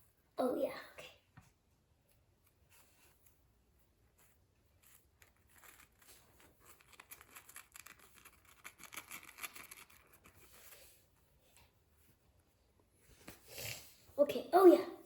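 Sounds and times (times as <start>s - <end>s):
faint scratching and rustling: 1.3s - 14.2s.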